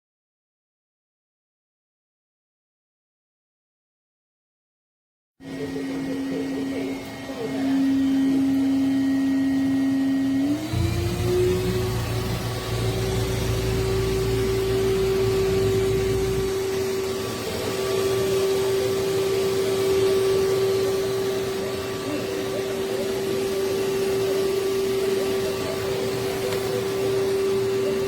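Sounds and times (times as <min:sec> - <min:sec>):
grooming vacuum motor whine: 0:05.4 - 0:28.0.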